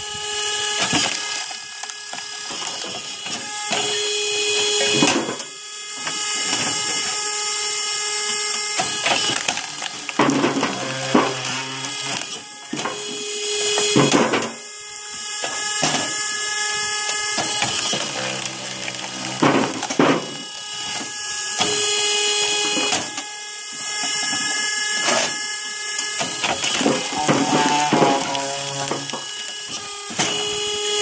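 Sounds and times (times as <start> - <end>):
log splitter motor whine: 0.0 - 31.0
wood cracking as it splits: 0.7 - 13.0, 13.7 - 23.2, 23.8 - 30.7.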